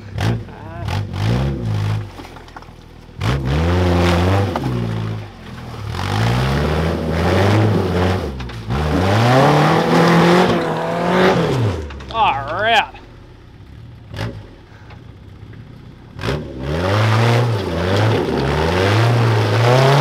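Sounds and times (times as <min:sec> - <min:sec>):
four-wheel drive engine revving: 0:00.0 - 0:20.0.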